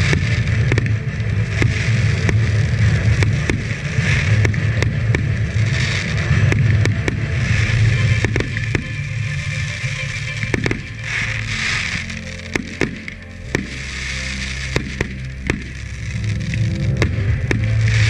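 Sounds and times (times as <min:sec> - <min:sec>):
fireworks bangs and pops: 0:00.0 - 0:18.0
low rumble: 0:00.0 - 0:18.0.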